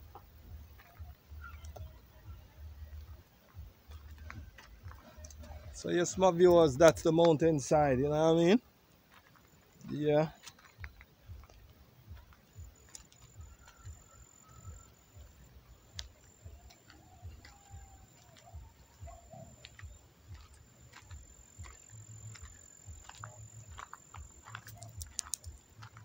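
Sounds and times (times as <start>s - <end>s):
faint bird calls: 0.0s - 6.0s, 9.2s - 26.0s
soft low thumps: 0.0s - 8.0s, 10.6s - 26.0s.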